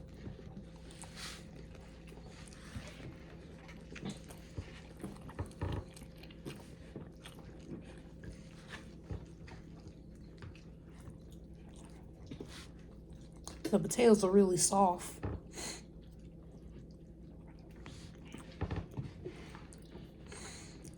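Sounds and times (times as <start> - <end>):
wet chewing and lip smacks: 0.0 - 13.7, 15.8 - 20.9.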